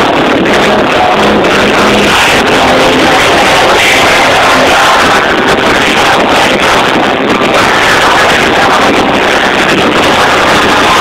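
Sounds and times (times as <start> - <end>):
electric guitar: 0.0 - 11.0
live hard rock band: 0.0 - 11.0.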